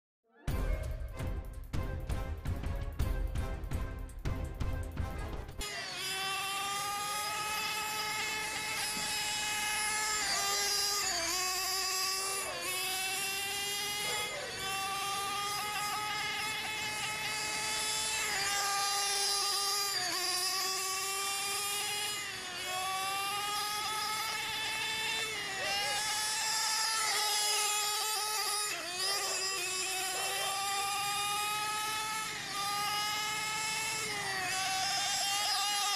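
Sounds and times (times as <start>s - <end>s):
model engine high-pitched whine: 5.5s - 35.9s.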